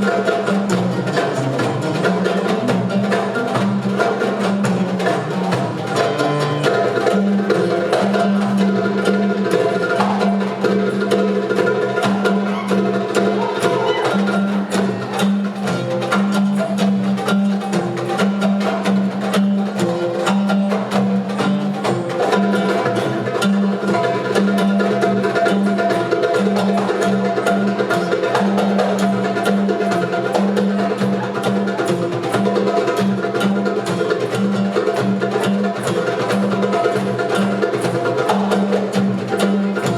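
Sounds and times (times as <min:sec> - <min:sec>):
hand drums playing fast rhythm: 0:00.0 - 0:39.9.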